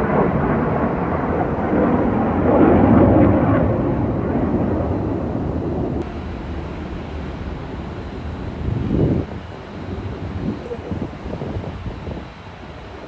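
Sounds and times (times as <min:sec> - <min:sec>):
aircraft engine passing overhead: 0:00.0 - 0:13.0.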